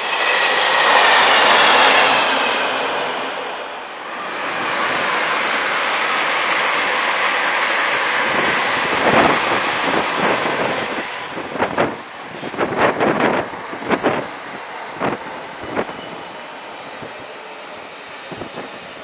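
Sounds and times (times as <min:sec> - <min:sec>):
train passing at speed: 0:00.0 - 0:19.0
wind gusts buffeting microphone: 0:00.0 - 0:19.0.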